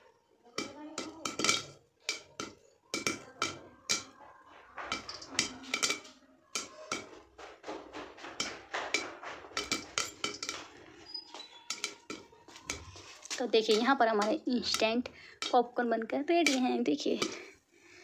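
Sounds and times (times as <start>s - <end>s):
popcorn popping in covered pan: 0.4s - 17.6s.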